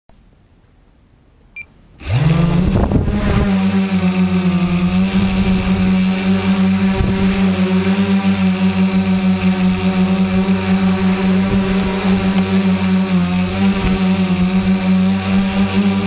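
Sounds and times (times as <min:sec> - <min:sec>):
drone propeller hum: 0:02.0 - 0:16.0.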